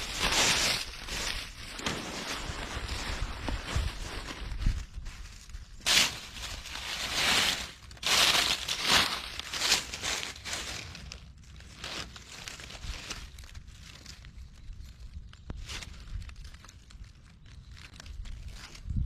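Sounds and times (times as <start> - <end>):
dry plant material rustling: 0.0 - 19.0.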